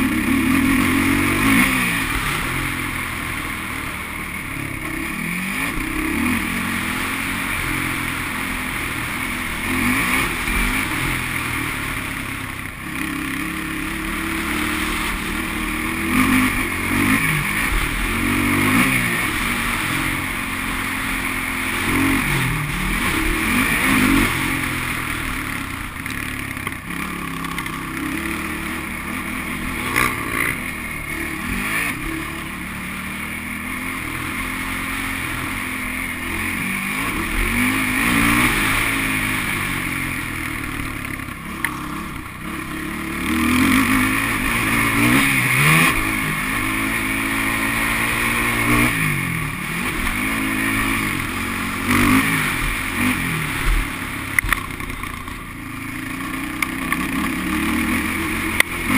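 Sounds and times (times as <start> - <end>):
atv engine revving: 0.0 - 58.9.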